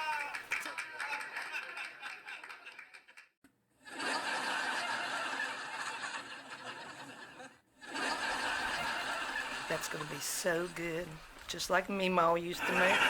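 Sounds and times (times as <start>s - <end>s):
group laughing: 0.0s - 11.2s, 12.6s - 13.0s.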